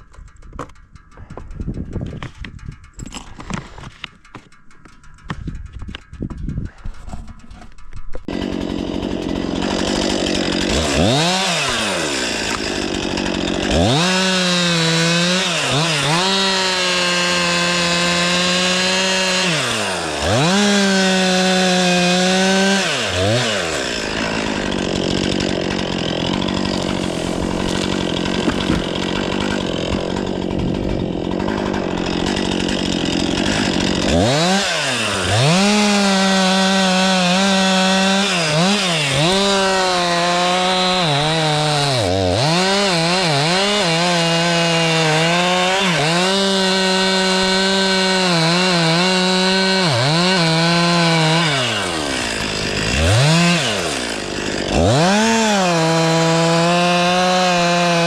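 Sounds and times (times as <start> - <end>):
chainsaw cutting wood: 0.0 - 58.0
chainsaw revving: 8.2 - 58.0.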